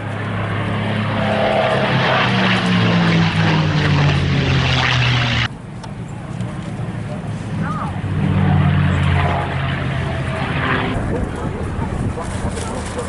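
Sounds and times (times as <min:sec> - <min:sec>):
propeller plane engine flying past: 0:00.0 - 0:13.0.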